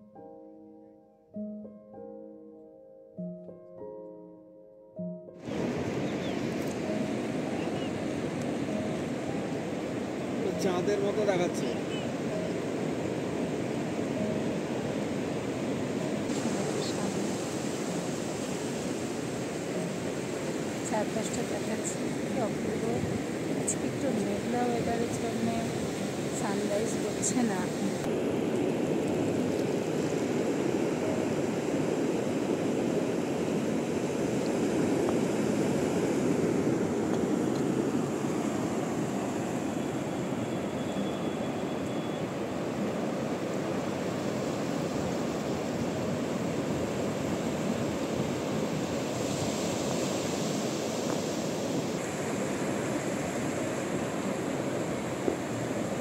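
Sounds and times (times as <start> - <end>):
waves breaking on sand: 5.4 - 40.7, 42.2 - 56.0.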